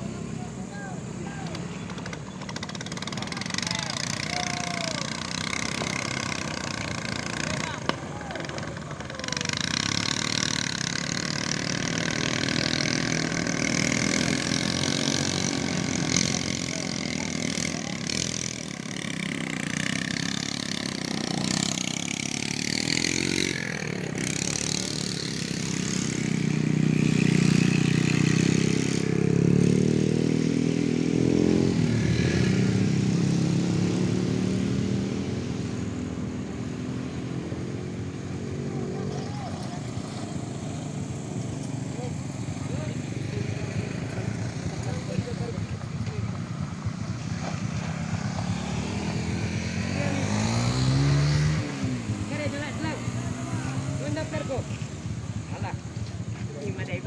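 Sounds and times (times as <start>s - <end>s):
small motorcycle engines: 0.0s - 57.0s.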